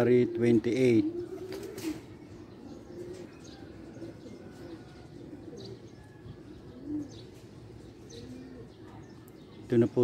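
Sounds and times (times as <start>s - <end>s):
doves cooing: 0.0s - 10.0s.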